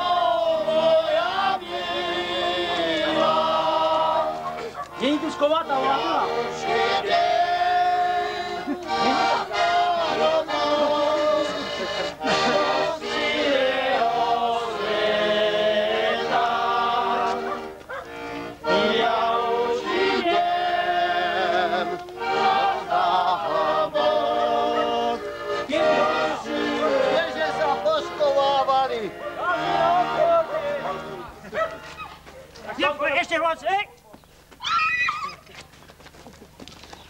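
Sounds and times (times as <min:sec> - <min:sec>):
accordion playing folk tune: 0:00.0 - 0:32.5.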